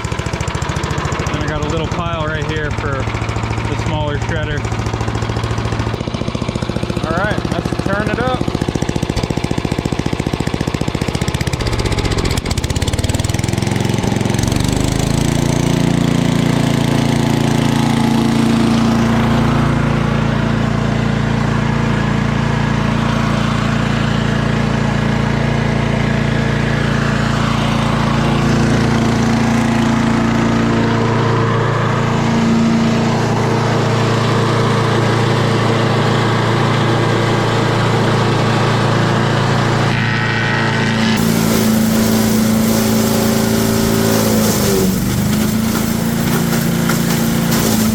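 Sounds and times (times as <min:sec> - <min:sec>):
wood chipper engine revving: 0:00.0 - 0:47.9.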